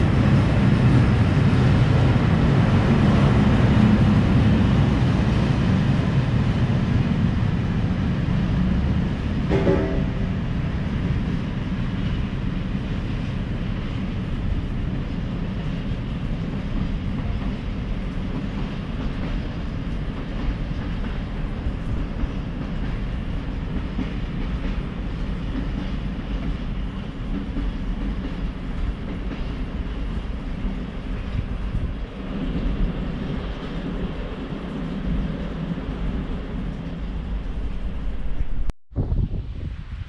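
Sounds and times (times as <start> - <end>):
freight train rumble: 0.0 - 40.0.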